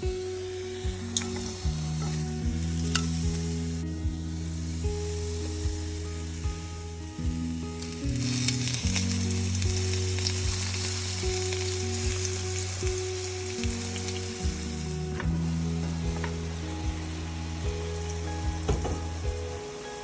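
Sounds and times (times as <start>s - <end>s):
background music with beat: 0.0s - 20.0s
mushroom sizzling in a pan: 0.0s - 20.0s.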